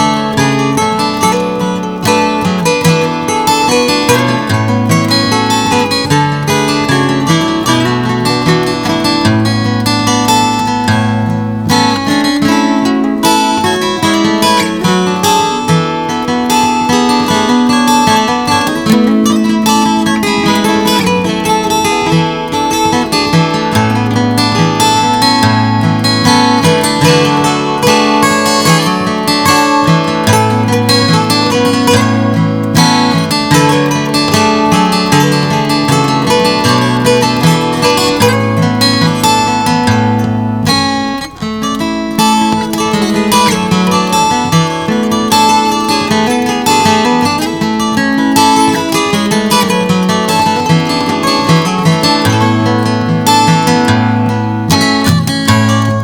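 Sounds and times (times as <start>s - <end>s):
guitar-led instrumental music: 0.0s - 56.0s.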